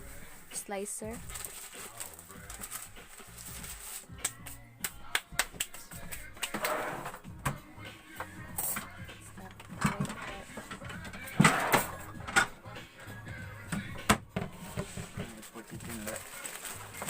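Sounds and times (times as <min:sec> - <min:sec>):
background music with low notes: 0:00.0 - 0:17.0.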